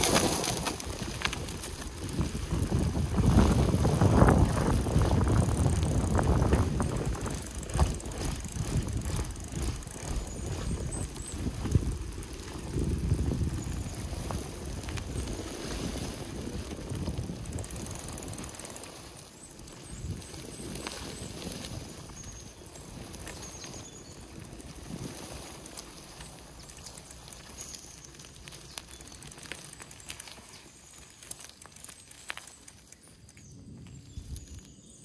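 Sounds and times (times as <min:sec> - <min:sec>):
wind buffeting microphone: 0:00.0 - 0:29.8, 0:33.4 - 0:35.0
bike rattling and knocking: 0:00.0 - 0:33.0
bike tyres rolling over ground: 0:00.0 - 0:35.0.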